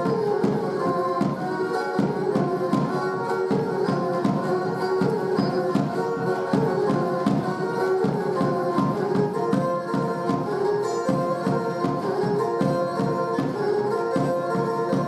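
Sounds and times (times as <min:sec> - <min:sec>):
bowed lyra melody: 0:00.0 - 0:15.0
large drum beat: 0:00.0 - 0:15.0.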